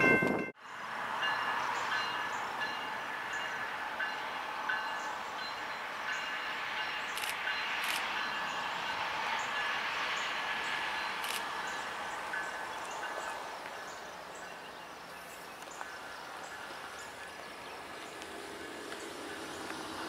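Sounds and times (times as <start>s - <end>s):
distant freight train rolling: 0.0s - 20.0s.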